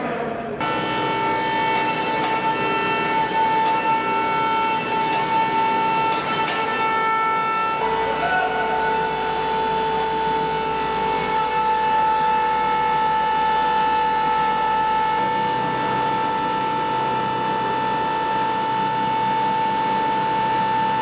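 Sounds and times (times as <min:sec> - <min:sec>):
machine whine: 0:00.0 - 0:21.0
noisy hum: 0:00.0 - 0:21.0.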